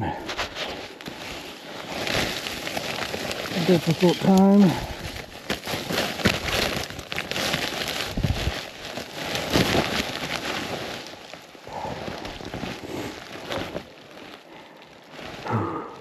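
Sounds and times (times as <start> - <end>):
snowshoes crunching in deep snow: 0.2 - 15.6.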